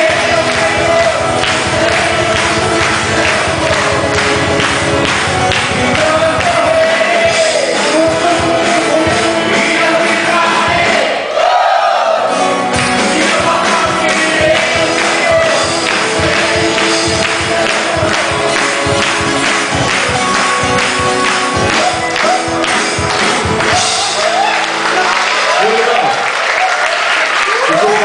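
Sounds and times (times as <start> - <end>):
congregation singing along: 0.0 - 25.1
live worship band: 0.0 - 28.0.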